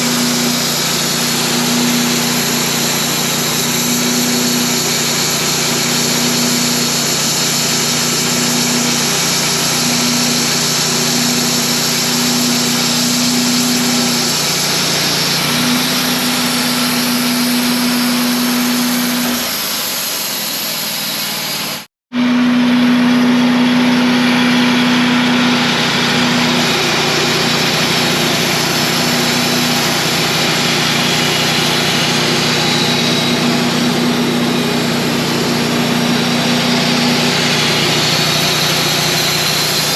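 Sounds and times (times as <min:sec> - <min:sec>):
band sawmill engine running: 0:00.0 - 0:39.9
constant whir: 0:00.0 - 0:39.9.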